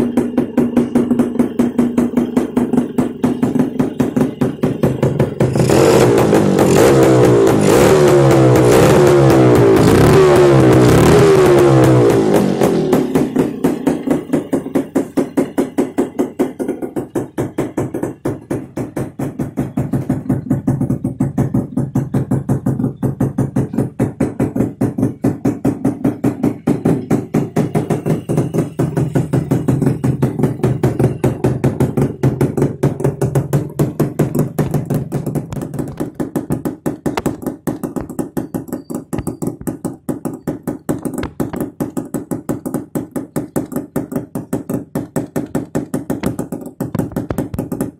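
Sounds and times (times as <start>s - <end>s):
motorcycle idling with popping exhaust: 0.0s - 47.9s.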